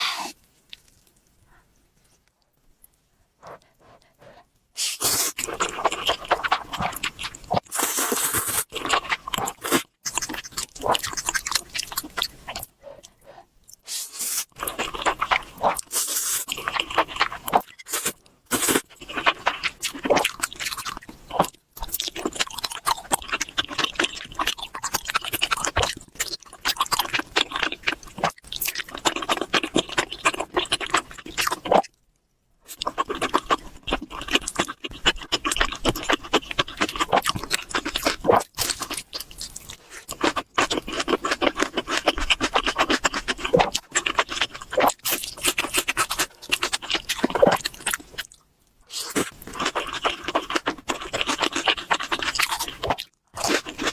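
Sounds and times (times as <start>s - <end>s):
chewing and crunching: 5.2s - 32.0s, 32.7s - 53.9s.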